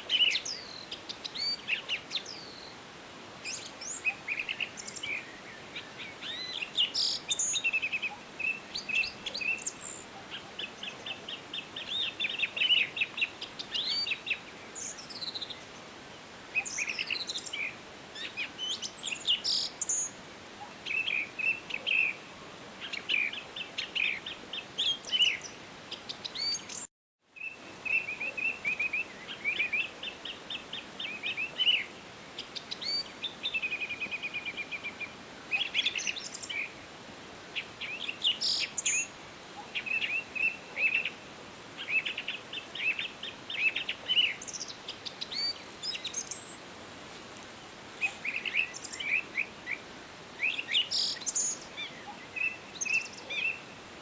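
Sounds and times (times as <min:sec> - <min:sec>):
faint hiss: 0:00.0 - 0:54.0
songbirds chirping: 0:00.0 - 0:54.0.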